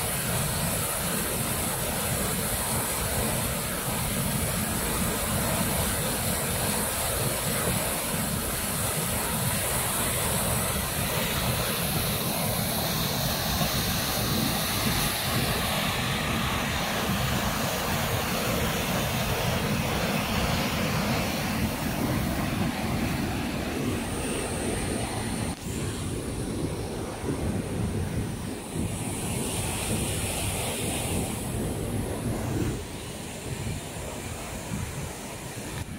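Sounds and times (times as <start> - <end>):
river rushing over rapids: 0.0 - 35.9.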